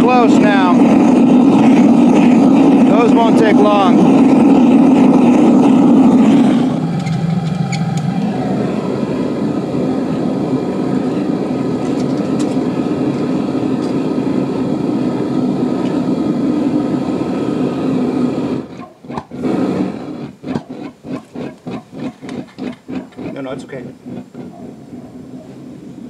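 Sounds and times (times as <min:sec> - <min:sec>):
fast uneven pulsing: 0:00.0 - 0:26.0
propane burner roaring: 0:00.0 - 0:26.0.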